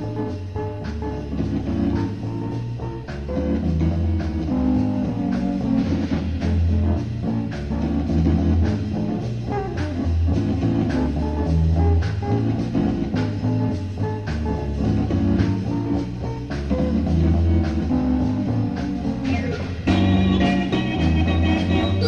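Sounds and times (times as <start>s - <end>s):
band playing blues: 0.0s - 22.0s.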